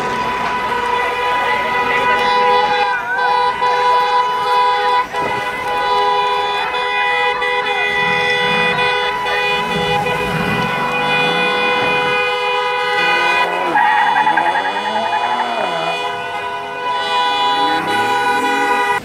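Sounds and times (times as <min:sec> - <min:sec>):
car engine revving: 0:00.0 - 0:19.0
vehicle horn blaring: 0:00.0 - 0:19.0.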